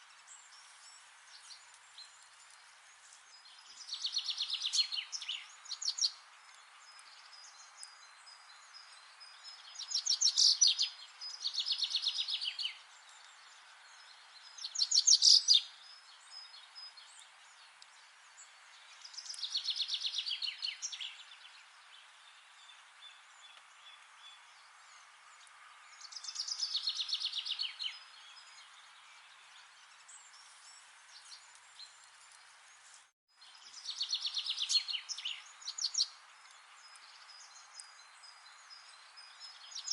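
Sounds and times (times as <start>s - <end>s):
songbird singing: 0.0s - 39.9s
steady background hiss: 0.0s - 39.9s.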